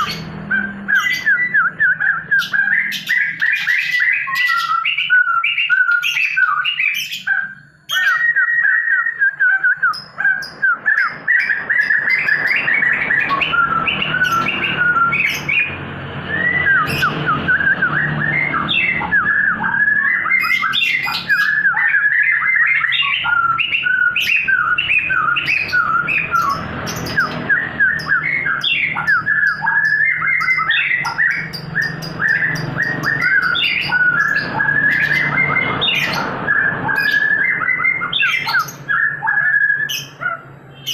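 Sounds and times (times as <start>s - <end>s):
songbird chattering and chirping: 0.0s - 40.9s.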